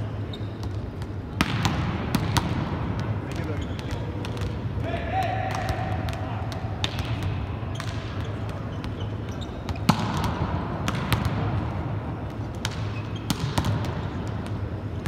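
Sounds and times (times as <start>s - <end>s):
steady low hum: 0.0s - 15.0s
volleyballs smacking court floor: 0.6s - 15.0s.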